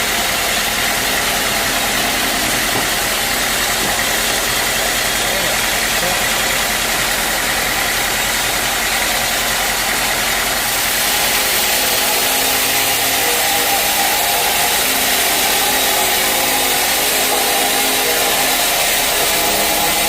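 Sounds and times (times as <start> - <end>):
loud machinery hiss: 0.0 - 20.0
motor hum: 0.0 - 20.0.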